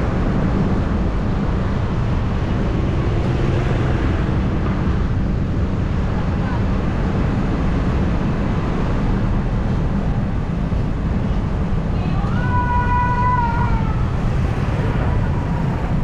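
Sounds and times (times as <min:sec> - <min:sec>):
vehicle road noise: 0:00.0 - 0:16.0
wind on microphone: 0:00.0 - 0:16.0.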